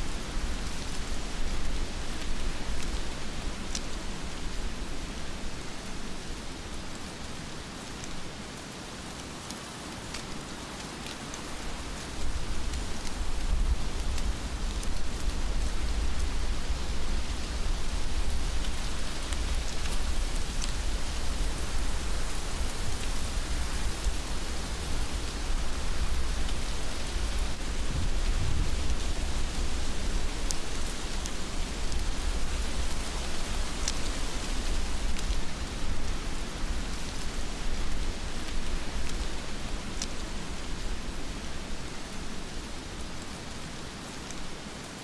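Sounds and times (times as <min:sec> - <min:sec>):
heavy rain: 0:00.0 - 0:45.0.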